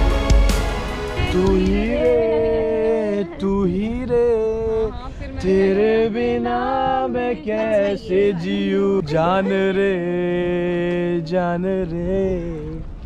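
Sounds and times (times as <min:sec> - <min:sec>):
man singing: 0:01.2 - 0:12.9.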